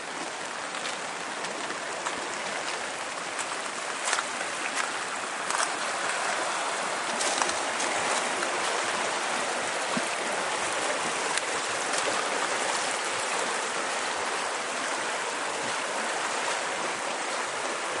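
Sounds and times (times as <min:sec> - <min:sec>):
river rushing in flood: 0:00.0 - 0:18.0.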